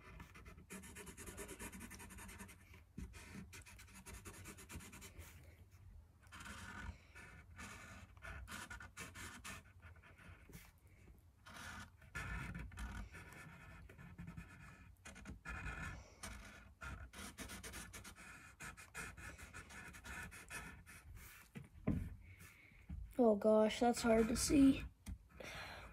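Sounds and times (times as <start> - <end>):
marker scratching: 0.0 - 5.5, 6.2 - 10.8, 11.4 - 22.5, 23.8 - 24.9.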